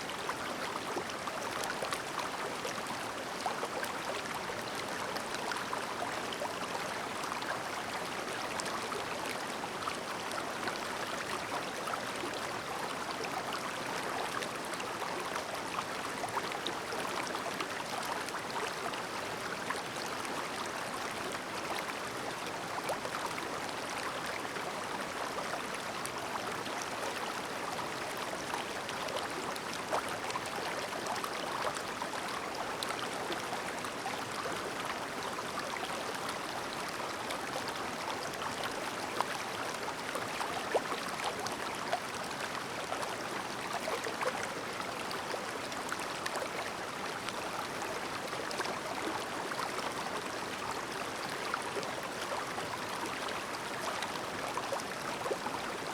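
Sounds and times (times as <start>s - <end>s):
stream murmuring over rocks: 0.0s - 55.9s.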